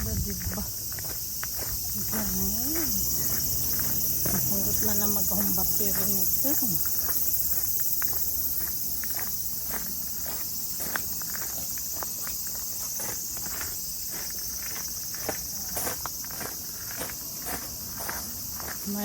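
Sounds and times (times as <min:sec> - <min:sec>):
footsteps crunching on path: 0:00.0 - 0:19.0
insects chorus: 0:00.0 - 0:19.0.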